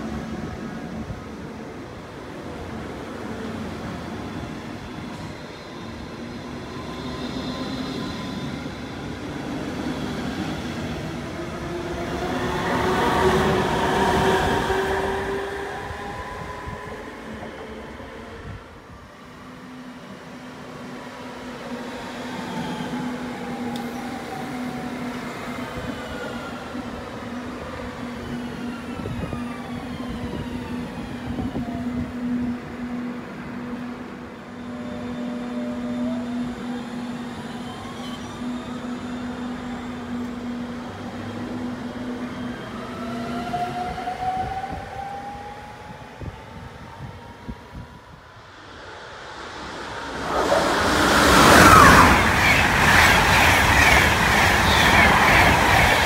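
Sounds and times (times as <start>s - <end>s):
steady train hum: 0.0s - 56.0s.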